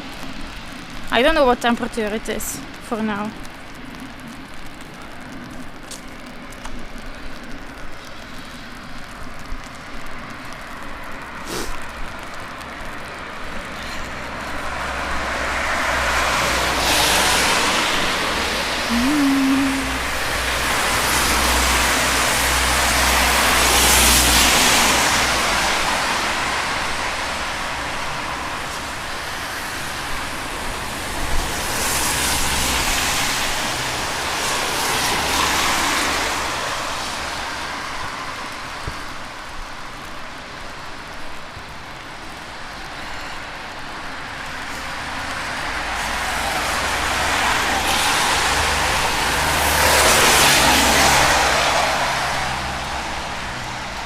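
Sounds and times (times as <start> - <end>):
car tyres hissing on wet road: 0.0 - 54.0
low traffic rumble: 0.0 - 54.0.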